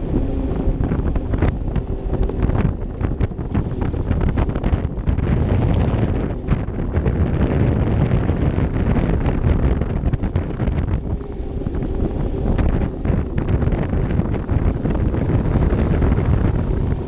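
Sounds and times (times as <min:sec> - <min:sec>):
scooter engine: 0:00.0 - 0:17.0
wind buffeting the microphone: 0:00.0 - 0:17.0.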